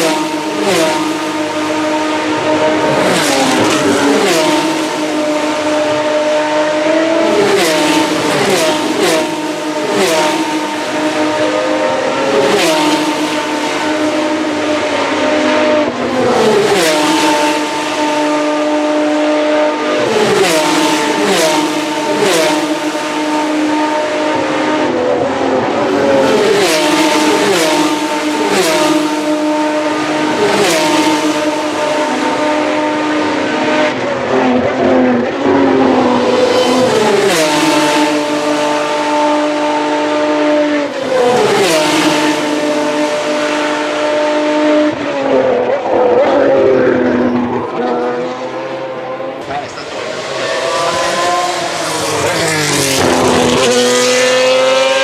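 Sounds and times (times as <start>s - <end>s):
distant engines revving: 0.0s - 55.0s
racing cars passing: 0.0s - 55.0s.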